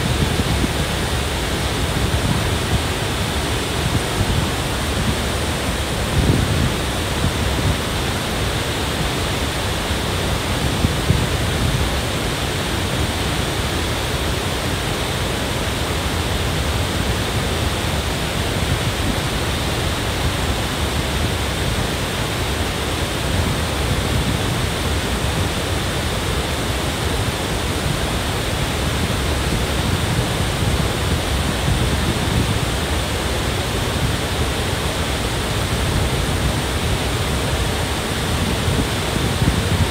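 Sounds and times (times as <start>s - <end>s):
creek rushing over rocks: 0.0s - 39.9s
waterfall roar: 0.0s - 39.9s.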